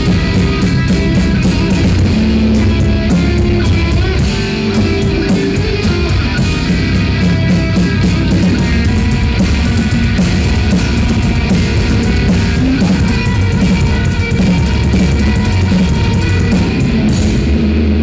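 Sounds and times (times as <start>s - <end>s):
drum kit and cymbals: 0.0s - 18.0s
metal band playing live: 0.0s - 18.0s.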